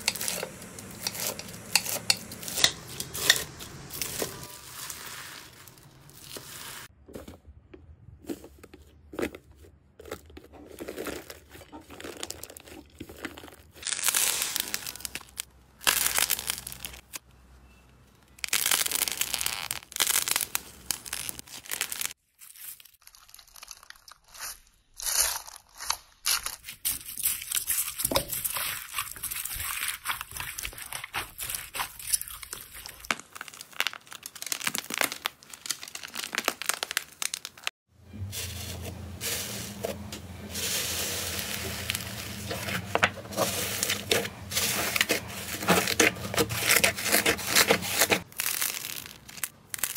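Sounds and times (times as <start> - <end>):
slime and clay squeezed by hand: 0.2 - 17.2, 18.2 - 37.7, 38.4 - 49.9.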